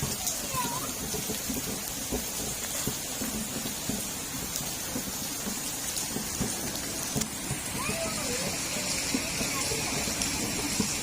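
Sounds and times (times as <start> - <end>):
drops splashing on hard surfaces: 0.0 - 11.0
heavy rain falling: 0.0 - 11.0.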